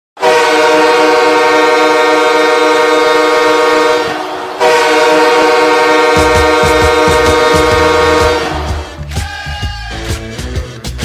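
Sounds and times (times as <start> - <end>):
goal horn blowing: 0.2 - 9.0.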